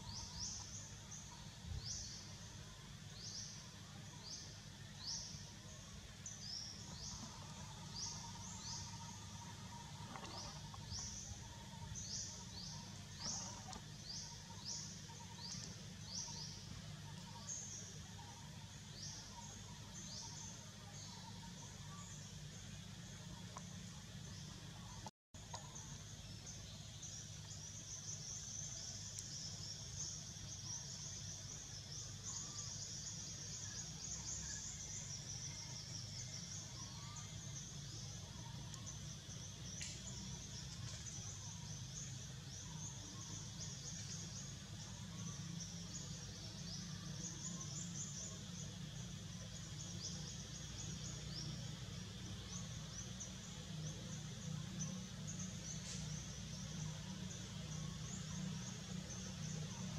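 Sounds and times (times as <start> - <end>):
pulsing insect chorus: 0.0 - 59.9.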